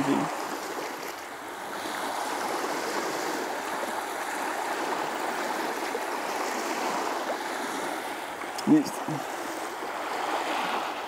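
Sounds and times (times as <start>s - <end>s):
small waves washing on beach: 0.0s - 11.0s.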